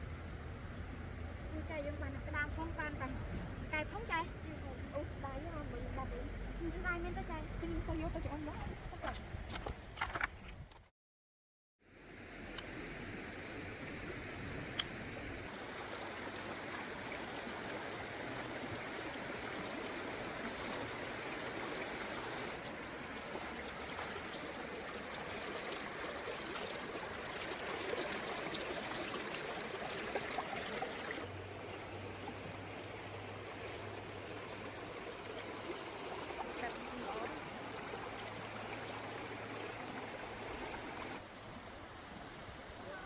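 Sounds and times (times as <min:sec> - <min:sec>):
flowing stream water: 0:00.0 - 0:10.3, 0:11.8 - 0:43.0.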